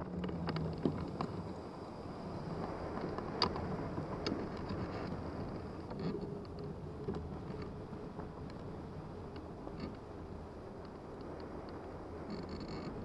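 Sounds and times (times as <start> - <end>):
faint clicks and ticks: 0.0 - 13.0
wind rushing over microphone: 0.0 - 13.0.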